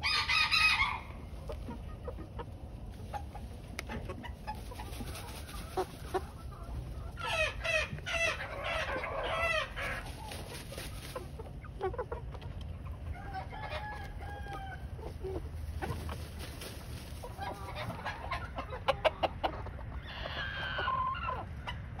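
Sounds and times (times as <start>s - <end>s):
chickens clucking and calling: 0.0s - 22.0s.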